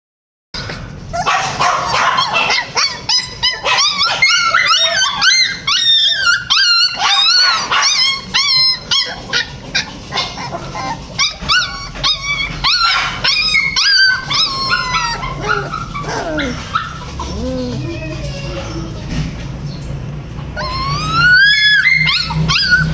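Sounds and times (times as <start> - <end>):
puppies whimpering and yipping: 0.6 - 22.9.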